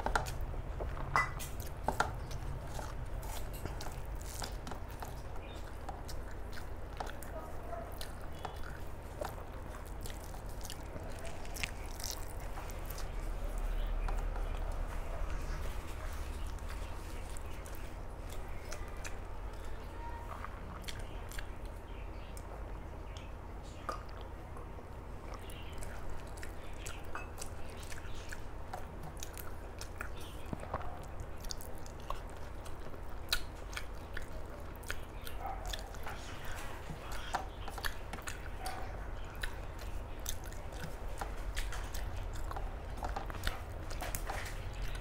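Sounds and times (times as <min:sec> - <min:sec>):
person chewing food: 0:00.0 - 0:45.0
steady low hum: 0:00.0 - 0:45.0.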